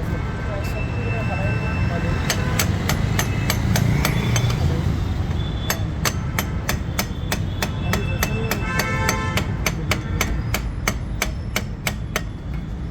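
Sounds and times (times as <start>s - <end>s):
hammer striking: 2.2s - 12.9s.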